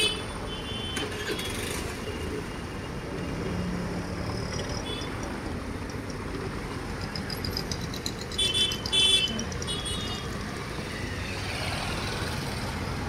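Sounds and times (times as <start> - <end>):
traffic hum: 0.0 - 13.0
vehicles passing: 0.0 - 13.0.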